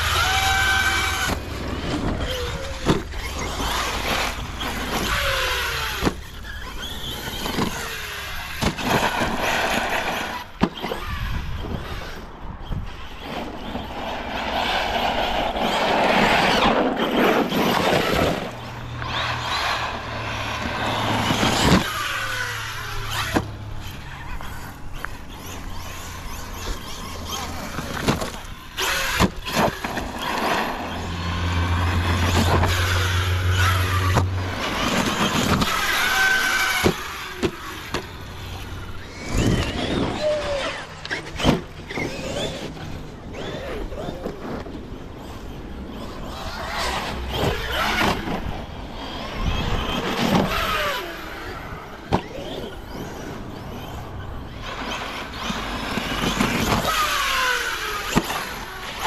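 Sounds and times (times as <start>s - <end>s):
electric motors whining: 0.0s - 59.0s.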